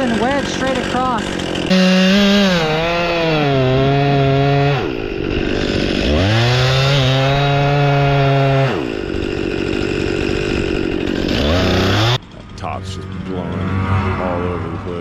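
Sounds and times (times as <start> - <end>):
chainsaw cutting: 0.0 - 13.6.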